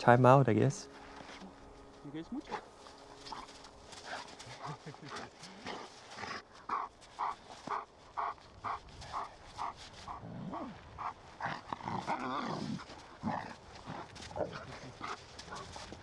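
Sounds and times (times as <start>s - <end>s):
dog panting: 2.4s - 10.2s, 10.9s - 16.0s.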